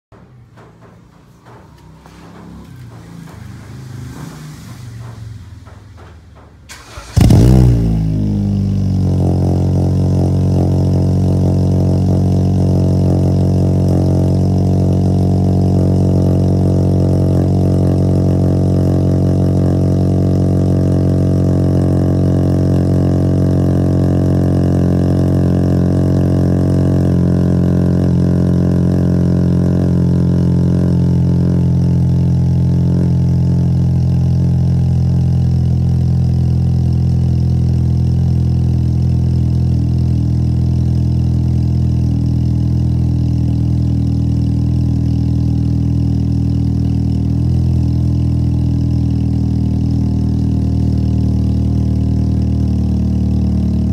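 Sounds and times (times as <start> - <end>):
car engine starting and idling: 0.1 - 53.9.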